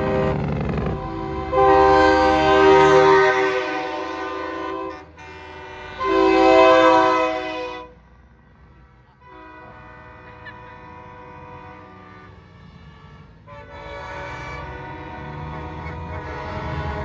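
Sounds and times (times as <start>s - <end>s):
truck air horn blasts: 0.0s - 8.0s, 8.8s - 17.0s
low engine rumble: 0.0s - 17.0s.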